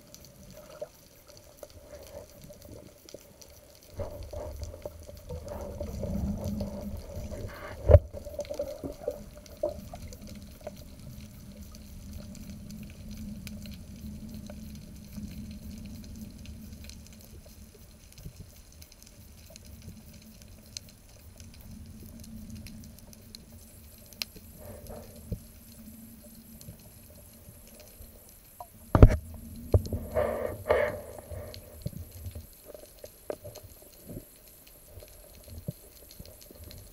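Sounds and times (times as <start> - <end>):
muffled underwater rumble: 0.0 - 36.9.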